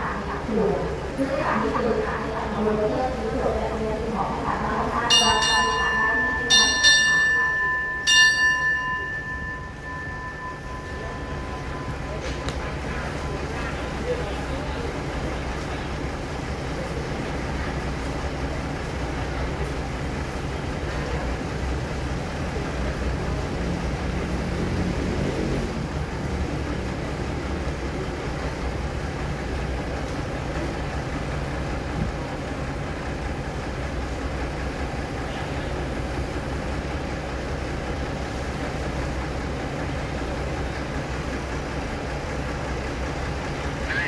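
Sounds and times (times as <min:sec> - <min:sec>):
train diesel engine idling: 0:00.0 - 0:44.0.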